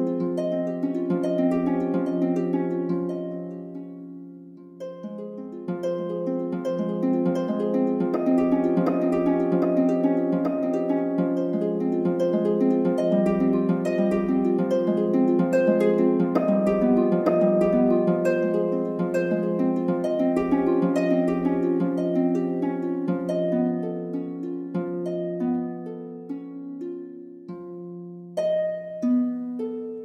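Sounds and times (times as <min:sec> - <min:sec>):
harp-like plucked string music: 0:00.0 - 0:30.0.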